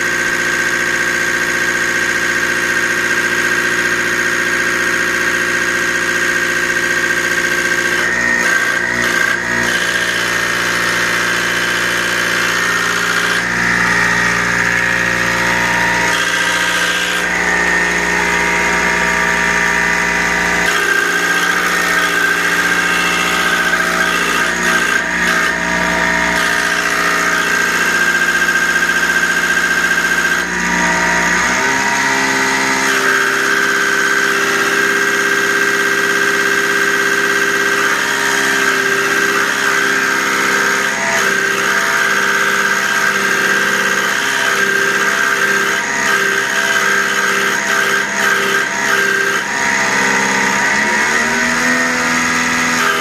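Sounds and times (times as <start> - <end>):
test bench mechanical whine: 0.0 - 53.0.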